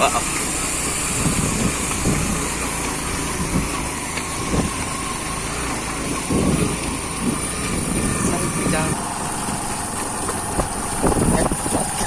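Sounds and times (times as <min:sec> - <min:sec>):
motorcycle riding off-road: 0:00.0 - 0:12.0.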